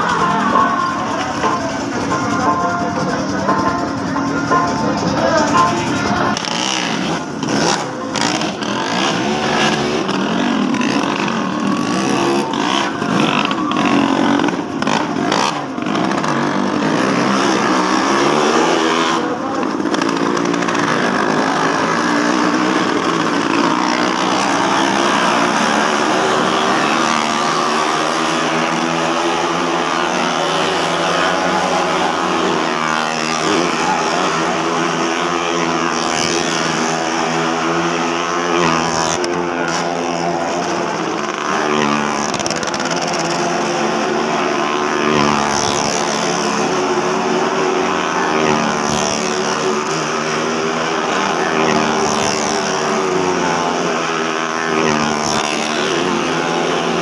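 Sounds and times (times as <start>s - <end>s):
motorcycle engines revving high: 0.0s - 57.0s.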